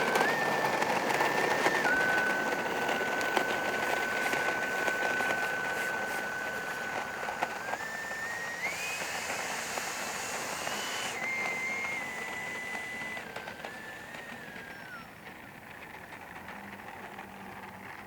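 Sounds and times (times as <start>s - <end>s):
electric ducted fan whining: 0.0s - 18.0s.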